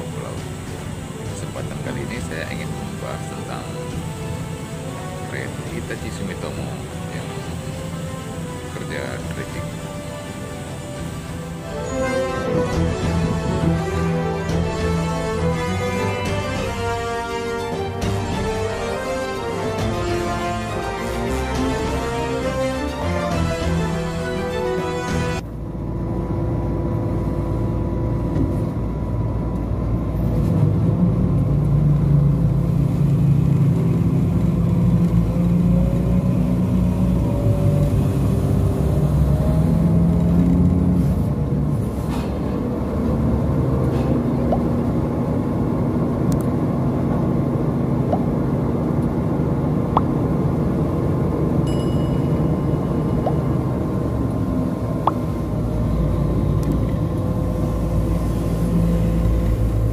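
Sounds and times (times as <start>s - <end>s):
crane diesel engine under load: 0.0s - 59.9s.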